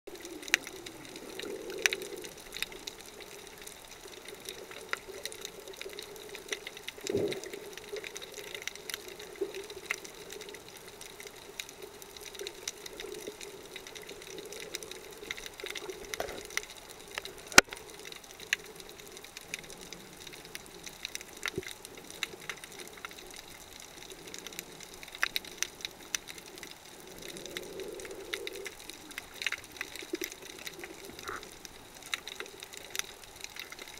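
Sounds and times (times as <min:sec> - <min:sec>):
muffled underwater hum: 0:00.1 - 0:33.3
sharp clicks and crackles: 0:00.1 - 0:33.9.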